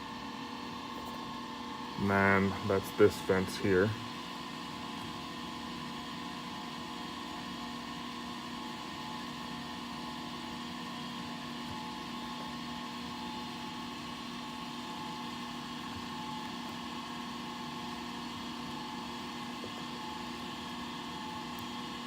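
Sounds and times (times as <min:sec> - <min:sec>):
machine hum with whine: 0:00.0 - 0:22.0.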